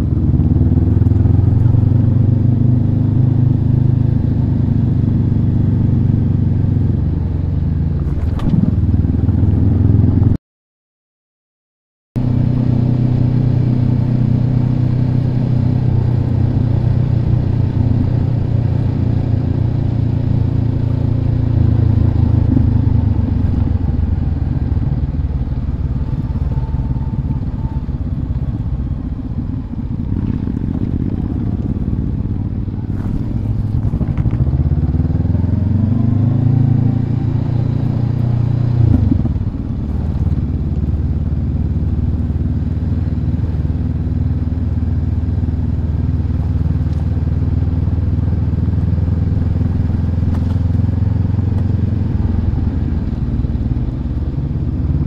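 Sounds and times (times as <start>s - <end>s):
motorcycle engine running: 0.0s - 10.4s, 12.2s - 55.0s.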